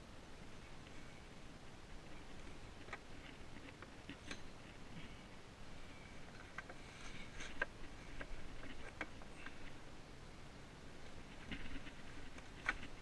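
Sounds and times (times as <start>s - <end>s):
light rustling: 0.6s - 9.9s, 10.9s - 13.0s.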